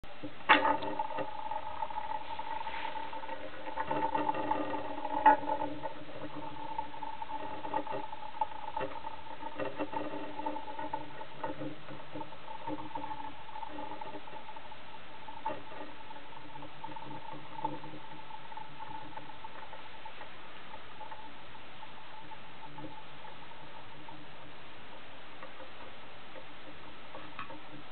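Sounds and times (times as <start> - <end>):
spinning top whirring: 0.2 - 27.9.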